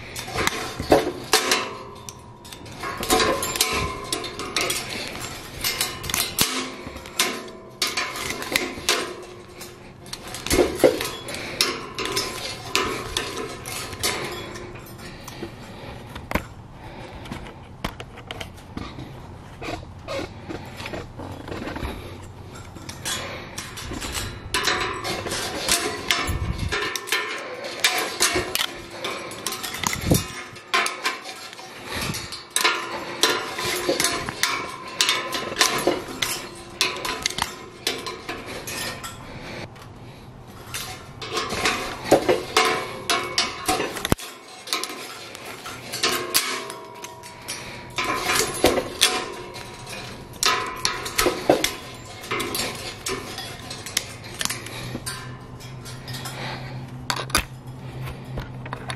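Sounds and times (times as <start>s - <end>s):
pliers clinking on metal bars: 0.0s - 17.0s, 20.1s - 58.9s
wire scraping and clicking on rebar: 0.0s - 58.9s.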